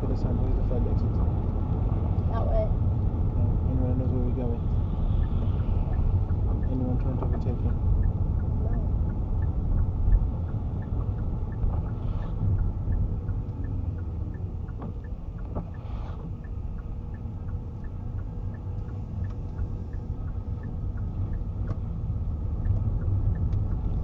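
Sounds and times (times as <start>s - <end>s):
car engine and road rumble: 0.0s - 24.0s
turn signal ticking: 0.1s - 24.0s.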